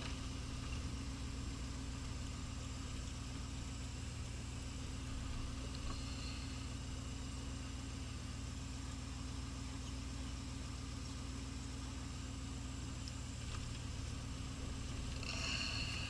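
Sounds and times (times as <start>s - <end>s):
car engine droning in cabin: 0.0s - 16.0s.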